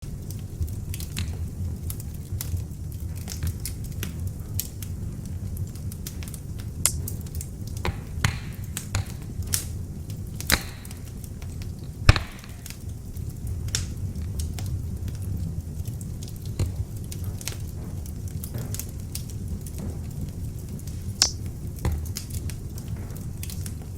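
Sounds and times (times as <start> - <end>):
log fire crackling: 0.0 - 23.9.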